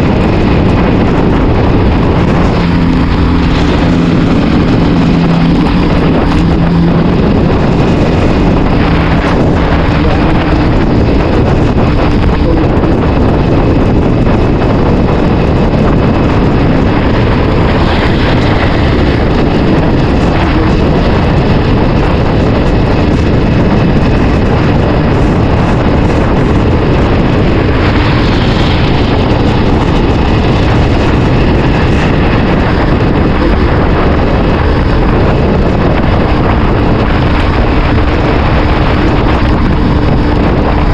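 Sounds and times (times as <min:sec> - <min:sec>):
heavy wind noise on microphone: 0:00.0 - 0:40.9
motorcycle engine running: 0:00.0 - 0:40.9.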